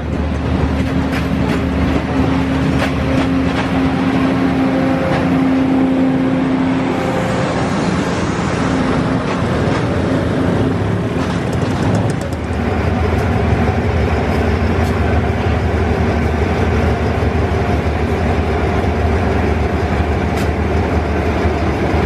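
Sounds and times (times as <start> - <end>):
train wheels clicking over rail joints: 0.0 - 5.6, 9.1 - 22.0.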